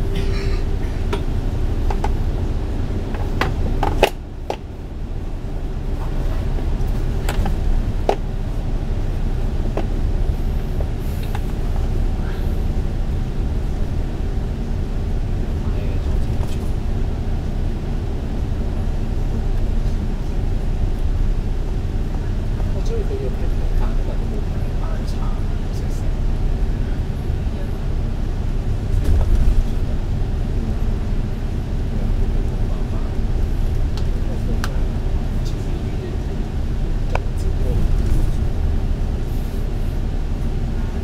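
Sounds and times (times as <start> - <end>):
bus engine and road drone: 0.0 - 41.0.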